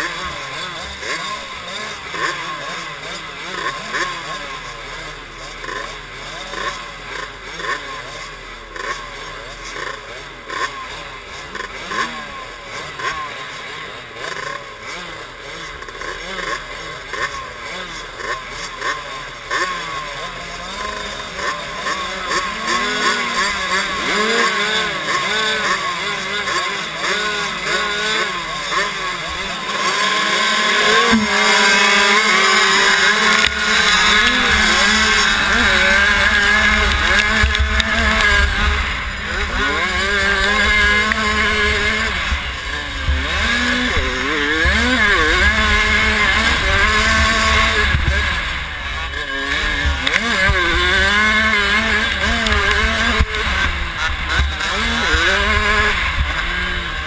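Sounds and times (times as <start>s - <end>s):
motocross bike engines revving: 0.0s - 57.0s
motorbike racing at high revs: 0.0s - 57.0s.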